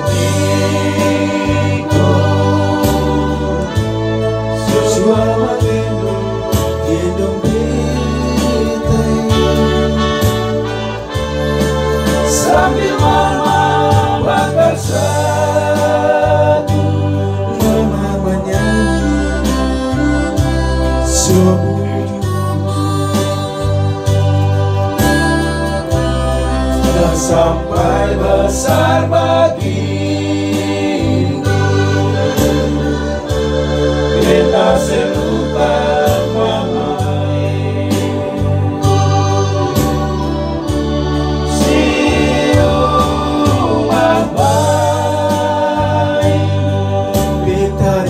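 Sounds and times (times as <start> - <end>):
keyboard organ-like chords: 0.0 - 48.0
male vocal group singing: 0.0 - 48.0
steady bass line: 0.0 - 48.0.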